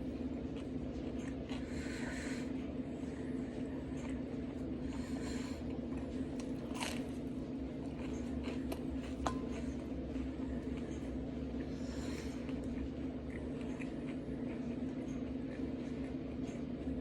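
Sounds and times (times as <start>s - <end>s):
person chewing food: 0.1s - 17.0s.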